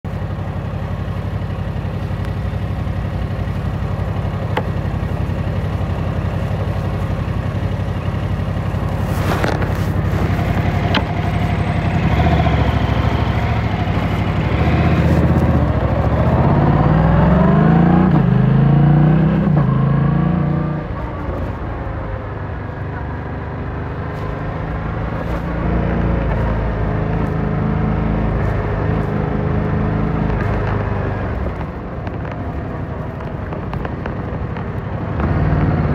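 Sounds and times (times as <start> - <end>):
motorcycle engine accelerating: 0.1 - 35.9.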